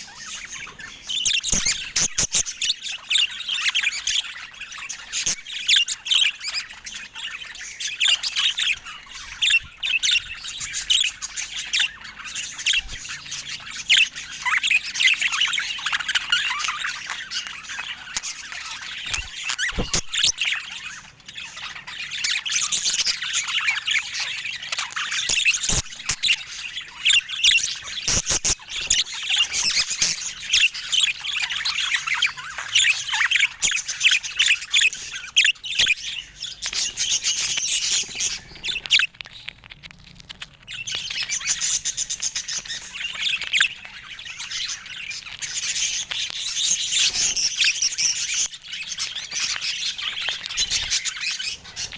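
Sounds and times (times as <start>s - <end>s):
budgerigars chattering: 0.0s - 39.5s, 40.4s - 51.9s.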